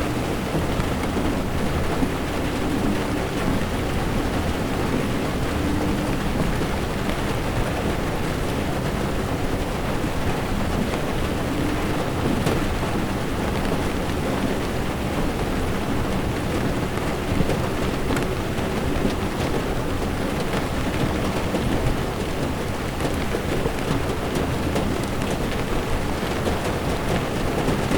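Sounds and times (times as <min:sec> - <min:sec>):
heavy rain on car windshield: 0:00.0 - 0:27.9
tyres rumbling on wet road: 0:00.0 - 0:27.9.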